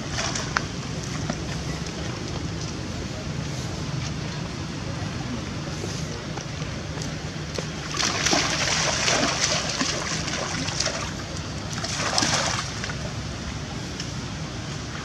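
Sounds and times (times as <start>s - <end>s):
water splashing and sloshing: 0.0s - 5.0s, 6.2s - 15.0s.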